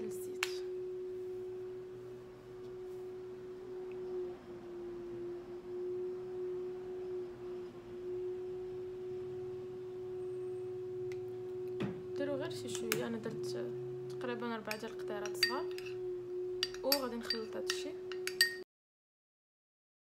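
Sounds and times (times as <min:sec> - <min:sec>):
steady humming tone: 0:00.0 - 0:18.6.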